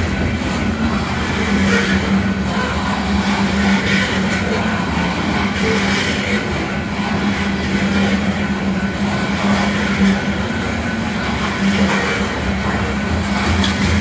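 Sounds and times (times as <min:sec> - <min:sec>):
constant low hum: 0:00.0 - 0:14.0
train cars rolling on rails: 0:00.0 - 0:14.0.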